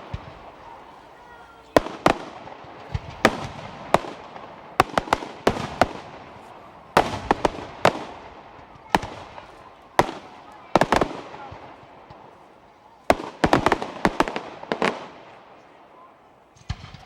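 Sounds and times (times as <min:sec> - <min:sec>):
fireworks bangs echoing: 0:00.0 - 0:17.0.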